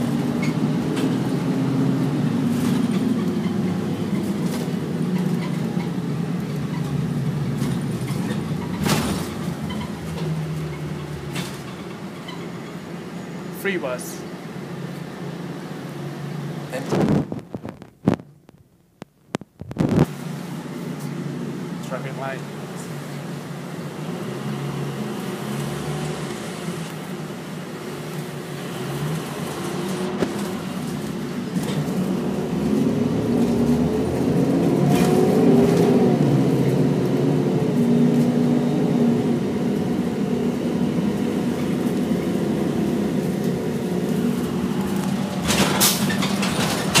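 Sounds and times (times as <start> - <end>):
bus engine running: 0.0 - 47.0.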